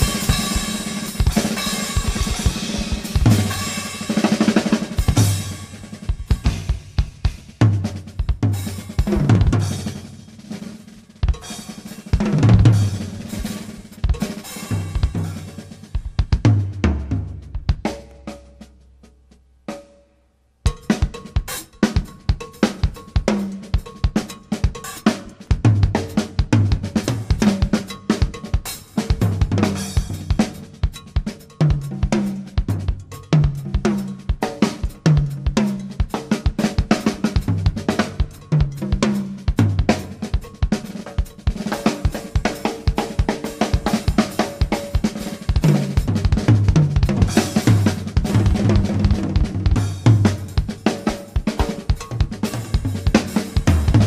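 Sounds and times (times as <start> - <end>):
fast drum kit solo: 0.0 - 20.0, 20.6 - 54.0.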